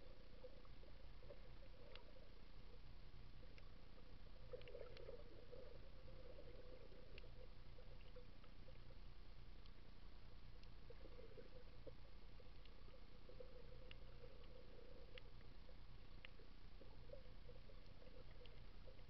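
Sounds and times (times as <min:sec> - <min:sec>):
low underwater hum: 0:00.0 - 0:19.0
small underwater clicks: 0:00.0 - 0:19.0.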